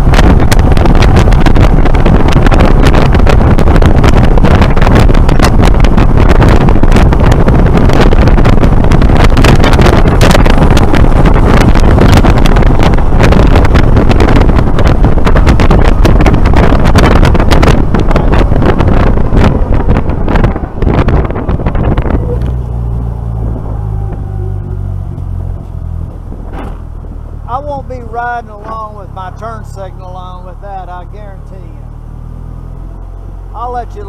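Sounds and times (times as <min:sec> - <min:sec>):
engine noise: 0:00.0 - 0:34.0
road noise: 0:00.0 - 0:34.0
wind buffeting microphone: 0:00.0 - 0:34.0.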